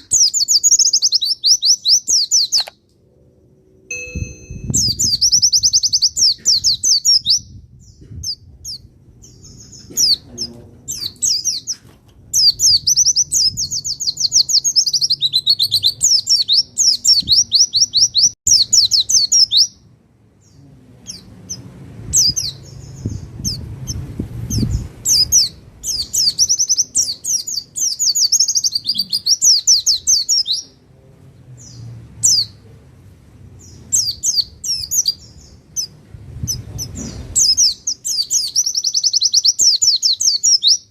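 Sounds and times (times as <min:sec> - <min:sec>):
bird twittering trills: 0:00.0 - 0:02.8, 0:03.4 - 0:30.8, 0:33.6 - 0:40.9.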